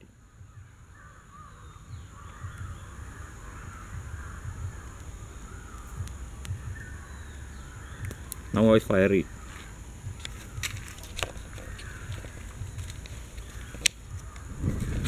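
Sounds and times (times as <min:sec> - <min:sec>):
birds calling: 0:00.0 - 0:15.0
low uneven rumble: 0:00.0 - 0:15.0.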